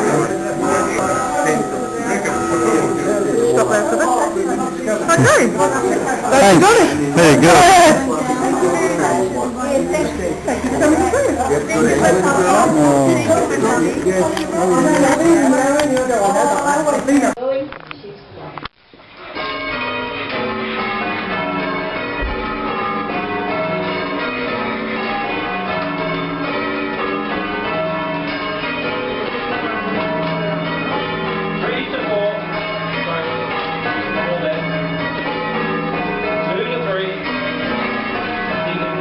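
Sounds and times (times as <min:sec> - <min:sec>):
church bells ringing: 0:00.0 - 0:17.4, 0:19.2 - 0:39.0.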